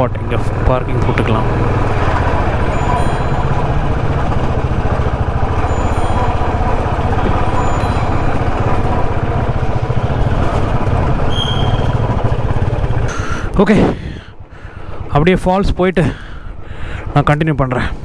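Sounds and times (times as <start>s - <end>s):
motorcycle engine idling: 0.0s - 17.3s.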